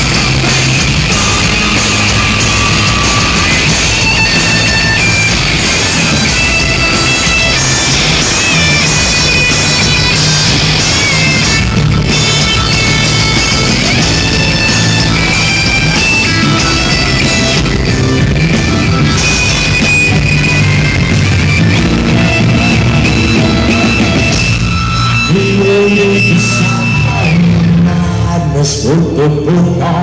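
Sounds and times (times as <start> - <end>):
held high guitar notes: 0.0 - 28.2
rock band playing: 0.0 - 30.0.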